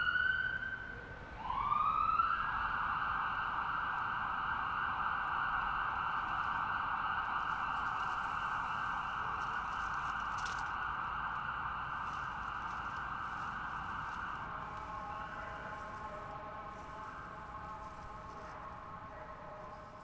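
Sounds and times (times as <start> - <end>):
distant ambulance siren: 0.0 - 20.0.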